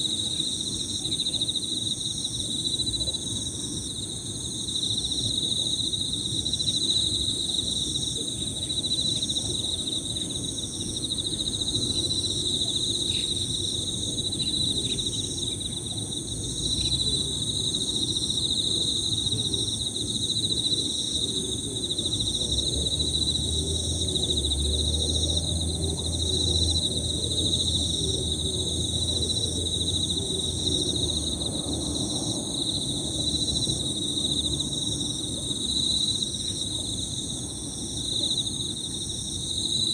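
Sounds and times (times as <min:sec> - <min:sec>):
crickets singing: 0:00.0 - 0:39.9.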